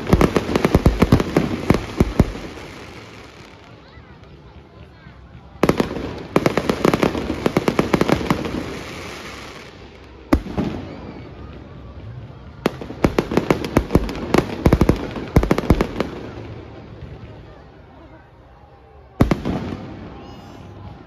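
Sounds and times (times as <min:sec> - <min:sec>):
fireworks bursting with sharp bangs: 0:00.0 - 0:17.8, 0:19.1 - 0:21.0.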